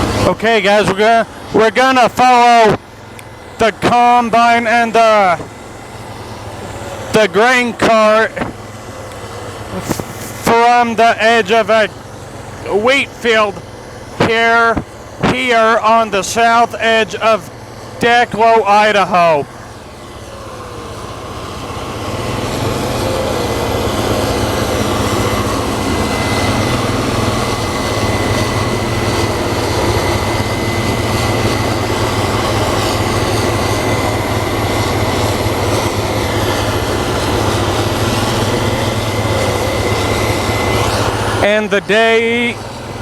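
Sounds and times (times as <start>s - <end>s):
harvester engine drone: 0.0s - 43.0s
high-pitched whine: 0.0s - 43.0s.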